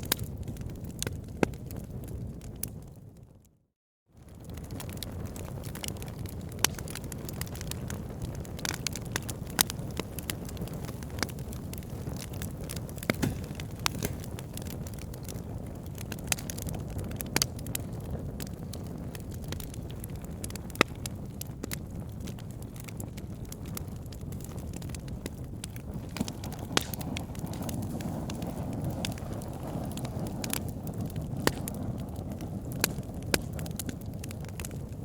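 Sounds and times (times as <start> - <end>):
logs crackling and popping: 0.0 - 3.5, 4.2 - 35.0
wood fire flames rumbling: 0.0 - 3.6, 4.2 - 35.0.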